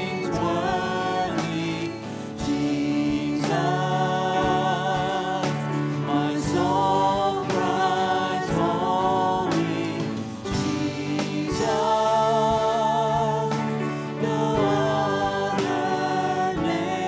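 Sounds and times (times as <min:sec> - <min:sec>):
guitar: 0:00.0 - 0:17.0
keyboard: 0:00.0 - 0:17.0
women singing in harmony: 0:00.0 - 0:17.0.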